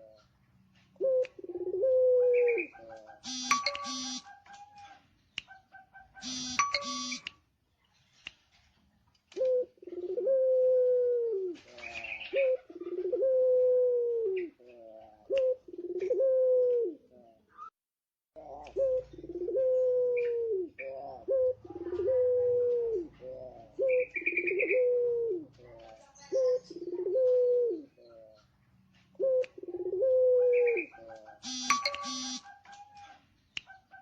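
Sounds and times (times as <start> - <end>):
dove cooing: 0.9 - 7.2, 9.3 - 17.6, 18.4 - 28.5, 29.1 - 34.0.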